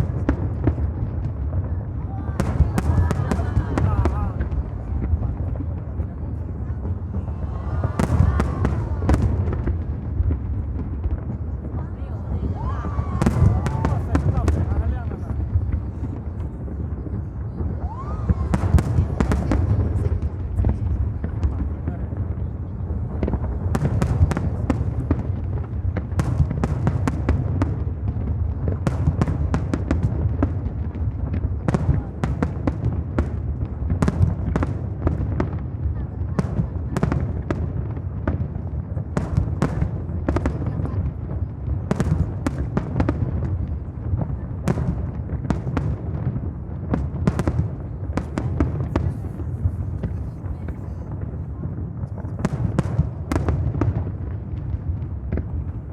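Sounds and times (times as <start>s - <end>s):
fireworks cracks and bangs: 0.0s - 55.9s
low rumble of booms: 0.0s - 55.9s.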